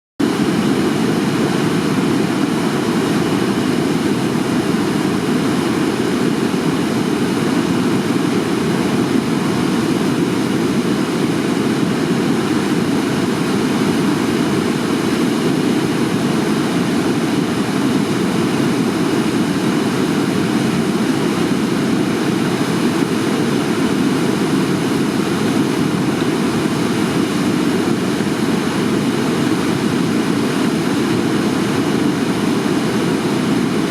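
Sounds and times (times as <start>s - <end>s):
swollen river rushing: 0.2s - 33.9s.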